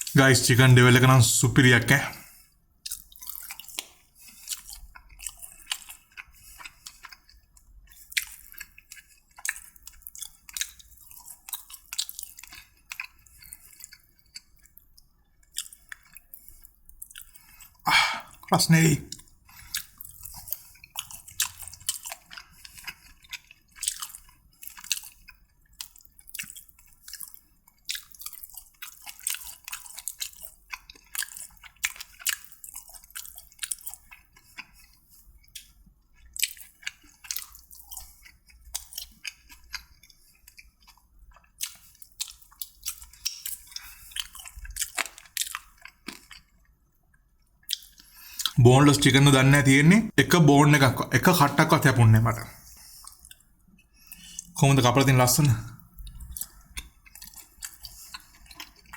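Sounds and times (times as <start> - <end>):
person chewing and eating: 0.0 - 58.9.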